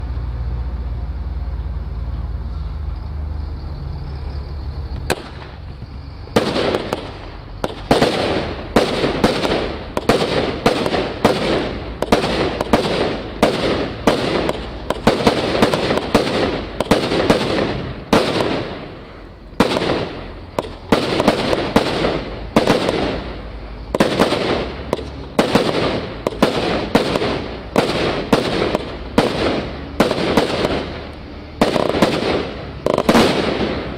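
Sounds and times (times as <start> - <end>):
firework cake firing shots: 5.1 - 5.7, 6.3 - 33.9.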